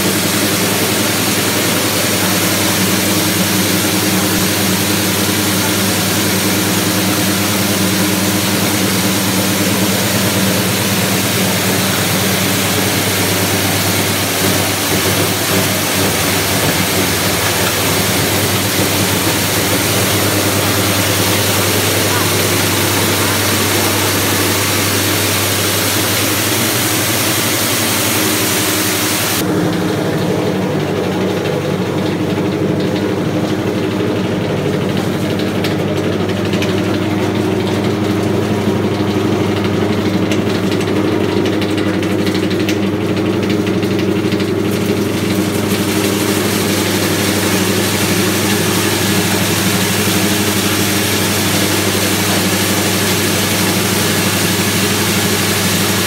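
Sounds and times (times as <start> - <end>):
petrol engine running: 0.0 - 56.0.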